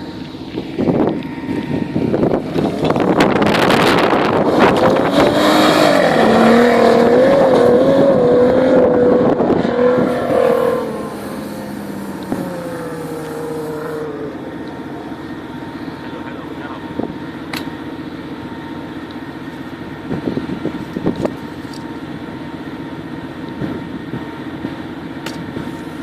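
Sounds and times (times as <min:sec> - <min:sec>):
off-road vehicle engine revving: 0:00.0 - 0:26.0.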